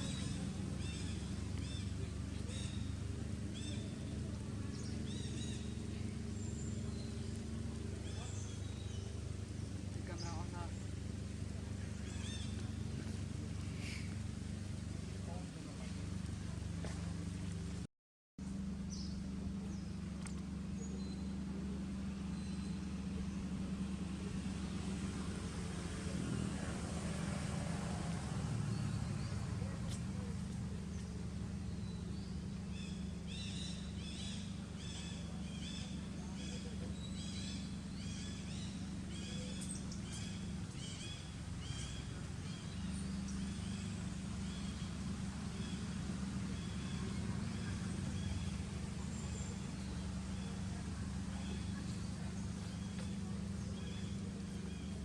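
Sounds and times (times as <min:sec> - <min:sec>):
low engine hum: 0:00.0 - 0:55.0.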